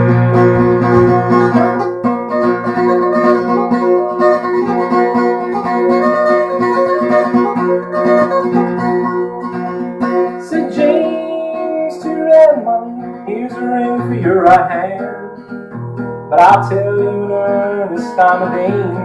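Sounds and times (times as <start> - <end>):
solo picked guitar: 0.0 - 19.0.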